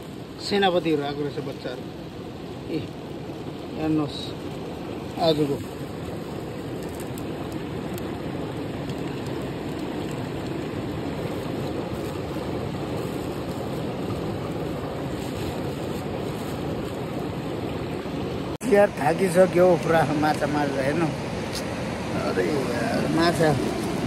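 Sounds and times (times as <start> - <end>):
fast-flowing river rushing: 0.0 - 24.0.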